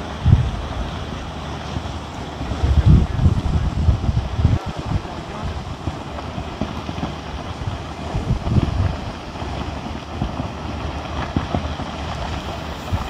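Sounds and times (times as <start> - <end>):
lava and rocks tumbling: 0.0 - 13.0.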